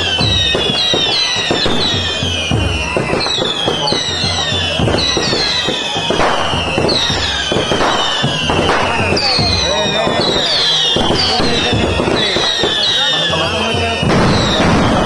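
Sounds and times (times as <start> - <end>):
fireworks crackling and popping: 0.0 - 15.0
fireworks whistling: 0.0 - 15.0.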